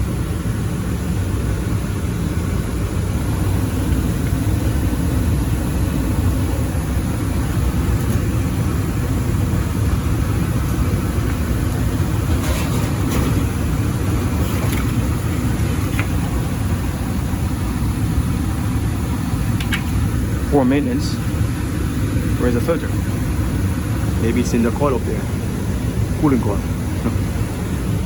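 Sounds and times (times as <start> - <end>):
furnace blower rumbling: 0.0 - 28.0.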